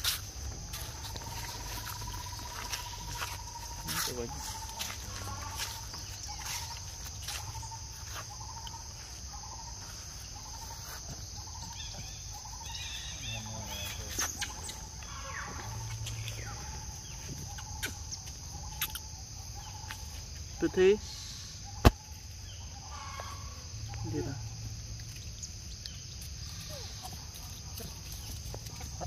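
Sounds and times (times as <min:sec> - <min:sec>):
high-pitched insect drone: 0:00.0 - 0:28.6.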